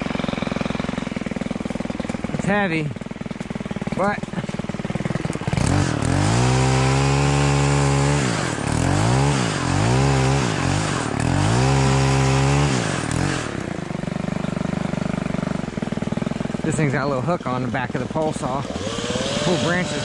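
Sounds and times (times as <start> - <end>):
pole saw engine revving: 0.0 - 20.0.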